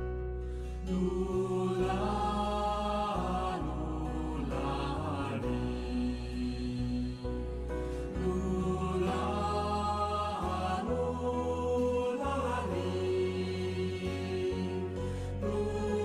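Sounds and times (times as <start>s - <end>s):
low drone: 0.0s - 16.0s
voices chanting long notes: 0.9s - 16.0s.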